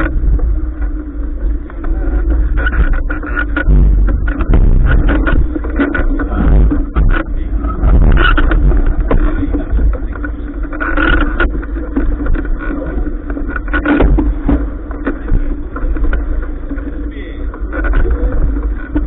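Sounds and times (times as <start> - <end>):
knocks and clatters: 0.0 - 19.0
steady hum: 0.0 - 19.0
wind buffeting microphone: 0.0 - 19.0.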